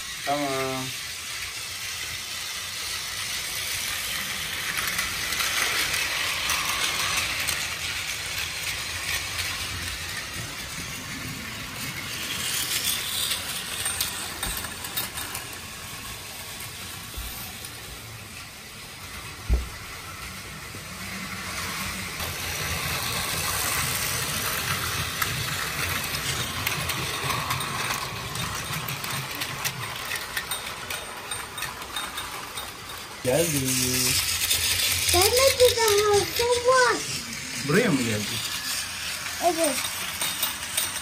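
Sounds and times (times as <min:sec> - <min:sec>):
toy train motor whir and rattle: 0:00.0 - 0:41.0.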